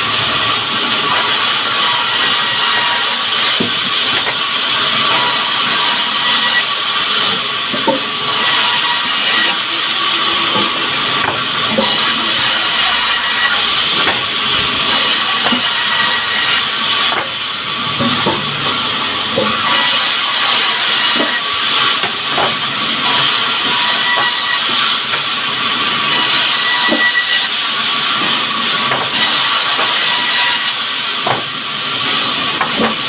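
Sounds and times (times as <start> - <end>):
bandsaw blade cutting timber: 1.1 - 17.4, 19.4 - 33.0.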